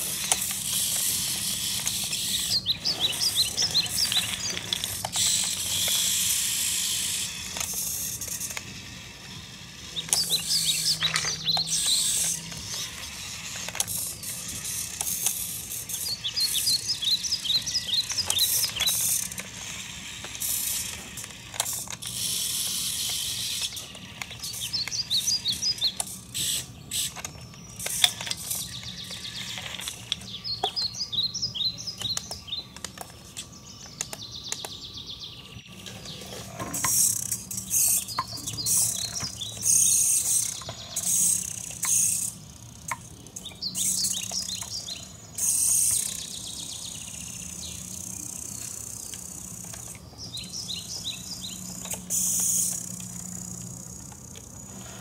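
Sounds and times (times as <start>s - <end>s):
model tractor motor whirring: 0.0s - 34.8s, 35.7s - 55.0s
small birds chirping: 0.0s - 55.0s.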